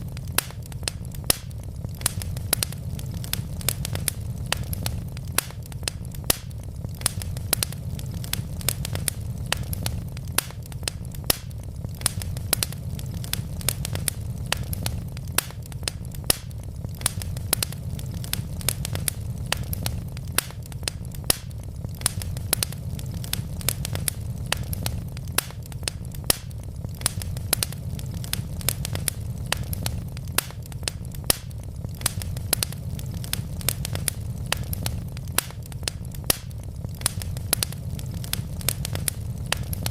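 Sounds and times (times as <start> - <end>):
burning logs crackling: 0.0 - 39.9
flames rumbling: 0.0 - 39.9.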